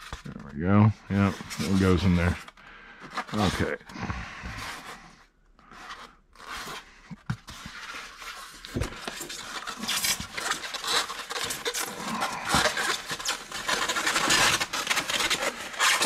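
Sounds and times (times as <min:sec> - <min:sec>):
styrofoam scraping and squeaking: 0:01.1 - 0:16.0.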